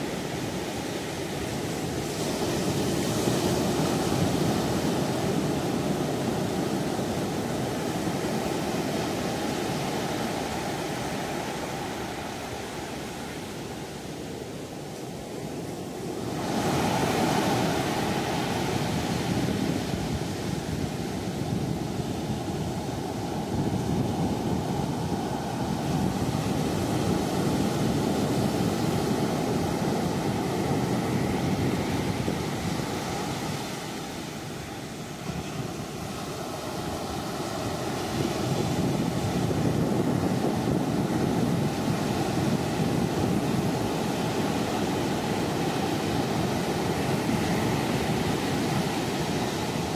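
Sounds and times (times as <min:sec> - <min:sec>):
sea water rushing: 0:00.0 - 0:49.9
wind: 0:00.0 - 0:49.9.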